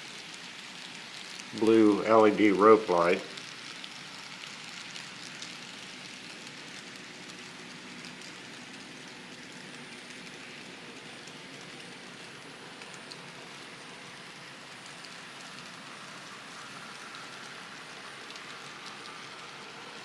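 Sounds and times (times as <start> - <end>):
model train rattling hiss: 0.0 - 20.0.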